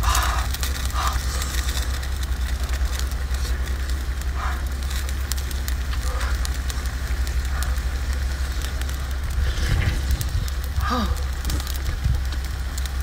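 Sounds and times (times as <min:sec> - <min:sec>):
gas burner flame rumble: 0:00.0 - 0:13.0
light crackling: 0:00.0 - 0:13.0.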